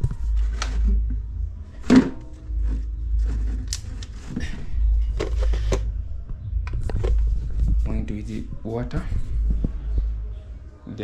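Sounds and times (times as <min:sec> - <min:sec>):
handling noise rumble: 0:00.0 - 0:10.4.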